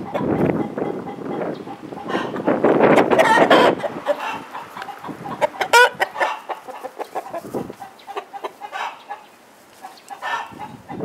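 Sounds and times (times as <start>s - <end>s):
chickens cackling: 0.0s - 11.0s.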